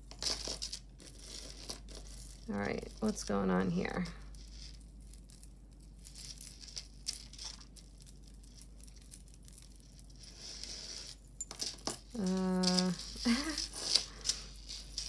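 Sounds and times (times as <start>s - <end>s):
metal chains clinking: 0.0s - 15.0s.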